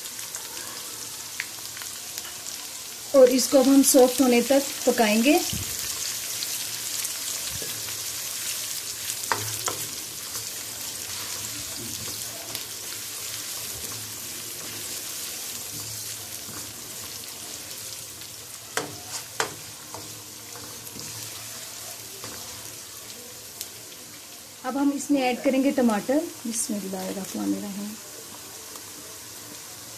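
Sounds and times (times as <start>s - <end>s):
onions sizzling in oil: 0.0s - 29.9s.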